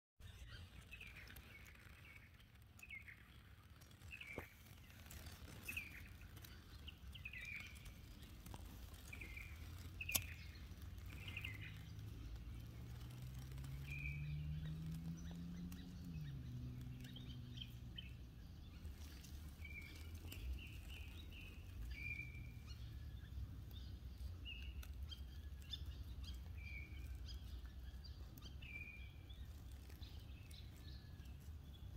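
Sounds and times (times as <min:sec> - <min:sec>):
bird chirping calls: 0:00.2 - 0:31.9.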